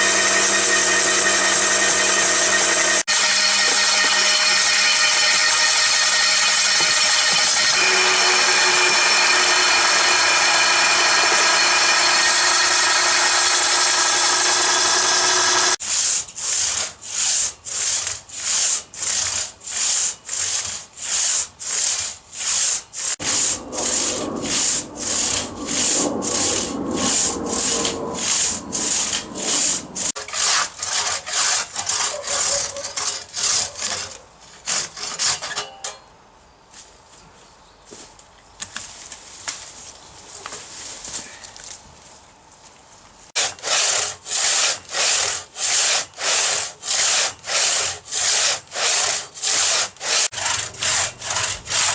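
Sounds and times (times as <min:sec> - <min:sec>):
hand saw cutting wood: 0:00.0 - 0:35.8, 0:43.4 - 0:51.9.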